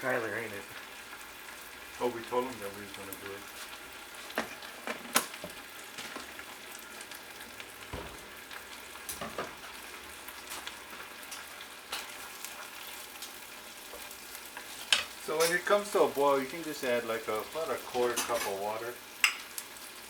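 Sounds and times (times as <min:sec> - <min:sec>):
sauce sizzling in a pan: 0:00.0 - 0:20.0.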